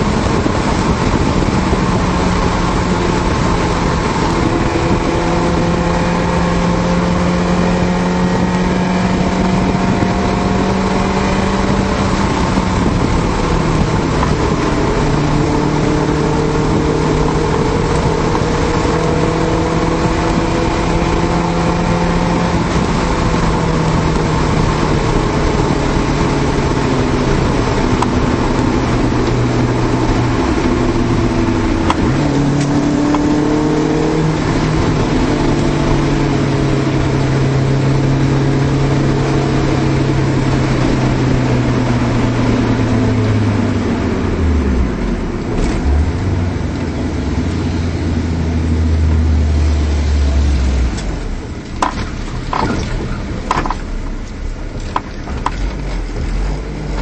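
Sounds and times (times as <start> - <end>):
car engine pulling: 0.0 - 57.0
road and tyre noise: 0.0 - 57.0.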